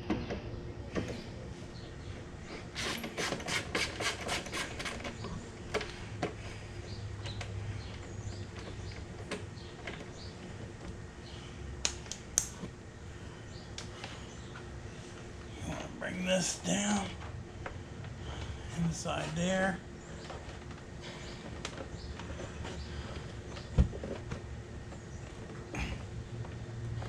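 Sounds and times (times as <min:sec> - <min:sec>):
rustling of wiring: 0:00.2 - 0:27.0.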